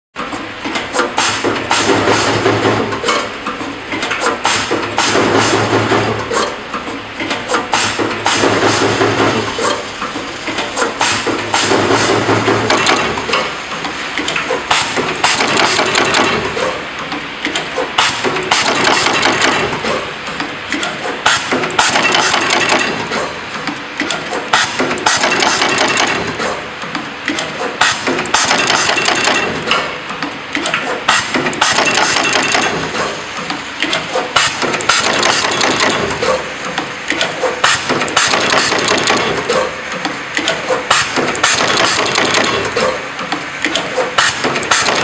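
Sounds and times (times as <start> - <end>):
machine clattering clicks: 0.2 - 45.0.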